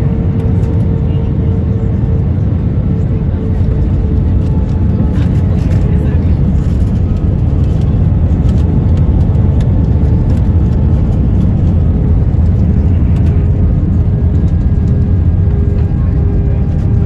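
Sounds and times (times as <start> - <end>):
jet engines and wheels rumbling: 0.0 - 17.0.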